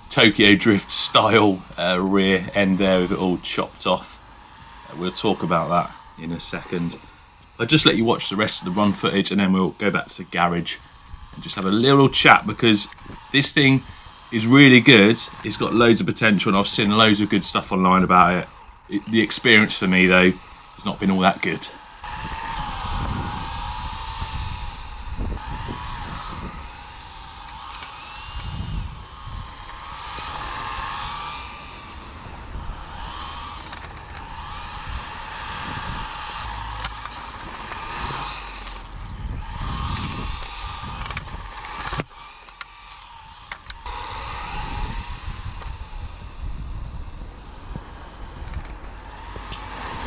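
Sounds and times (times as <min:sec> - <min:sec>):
rc car electric motor whining: 0:00.0 - 0:50.0.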